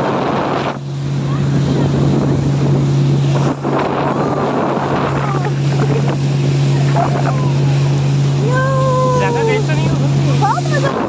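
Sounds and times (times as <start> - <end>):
speedboat engine droning: 0.0 - 11.0
water rushing past hull: 0.0 - 11.0
wind buffeting microphone: 0.0 - 11.0.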